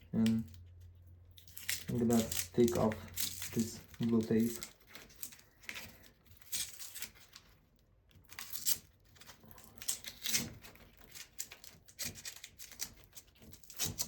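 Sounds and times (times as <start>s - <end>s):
tape being peeled off: 0.2s - 7.6s, 8.2s - 14.0s.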